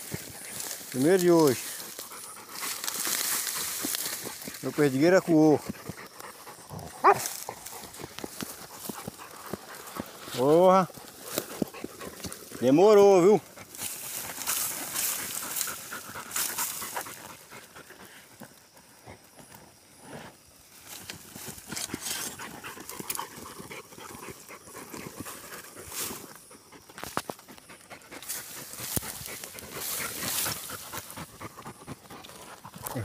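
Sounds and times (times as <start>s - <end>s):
rustling of dry straw and grass: 0.0s - 33.0s
dog panting: 0.1s - 19.2s, 22.2s - 33.0s.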